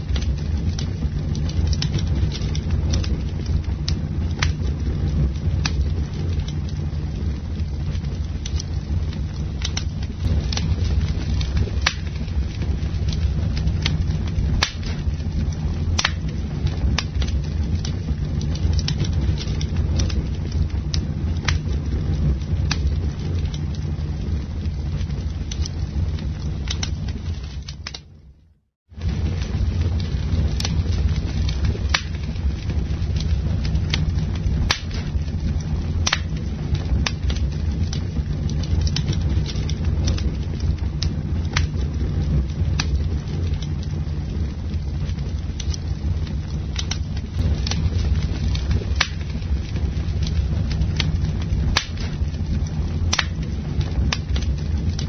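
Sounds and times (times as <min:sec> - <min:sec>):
campfire flames rumbling: 0:00.0 - 0:55.0
fire crackles and pops: 0:00.0 - 0:55.0.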